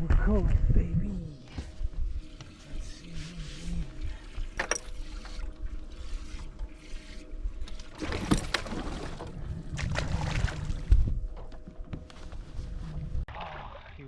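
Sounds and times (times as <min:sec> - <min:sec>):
faint steady hum: 0:00.0 - 0:13.2
water splashing and sloshing: 0:01.6 - 0:14.0.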